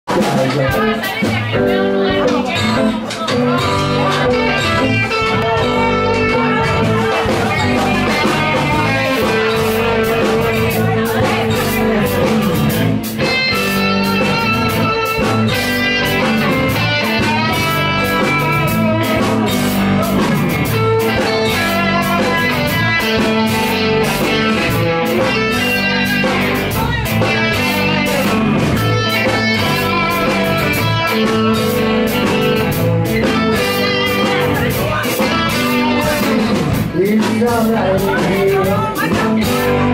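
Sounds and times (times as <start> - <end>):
electric and acoustic guitars: 0.1 - 39.9
steady drum beat: 0.1 - 39.9.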